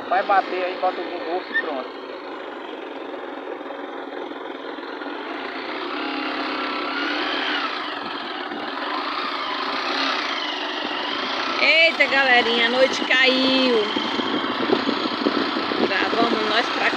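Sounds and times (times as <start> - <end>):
road and wind noise: 0.0 - 16.9
vehicle engine running: 0.0 - 16.9.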